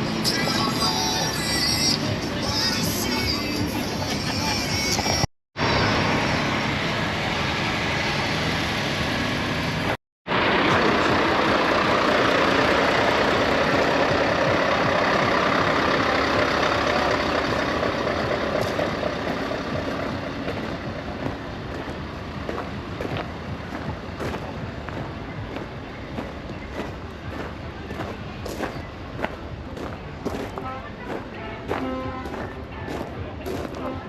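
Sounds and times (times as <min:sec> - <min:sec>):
heavy truck running: 0:00.0 - 0:34.0.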